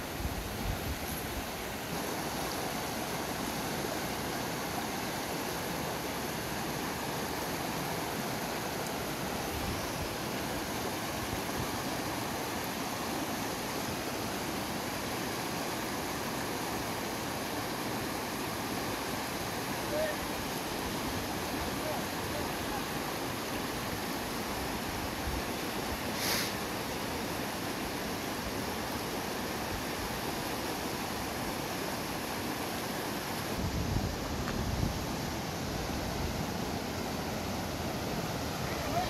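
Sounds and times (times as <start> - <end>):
river rushing over stones: 0.0 - 39.0.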